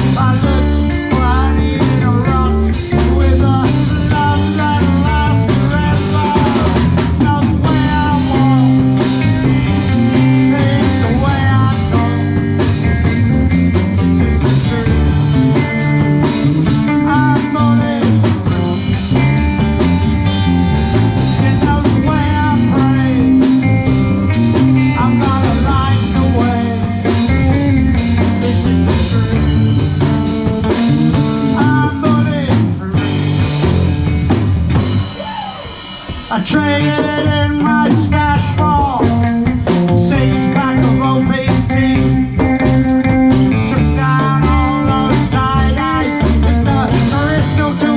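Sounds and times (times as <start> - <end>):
electric guitar with pitch bends: 0.0 - 47.9
live rock band playing: 0.0 - 47.9.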